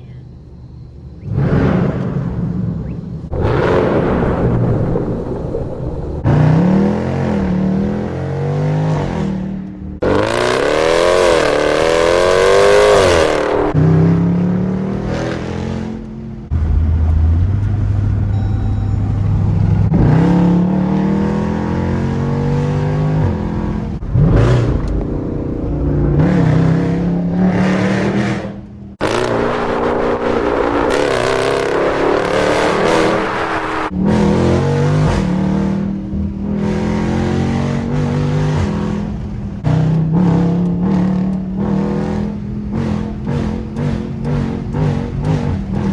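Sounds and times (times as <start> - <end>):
car engine accelerating through gears: 6.2 - 45.9.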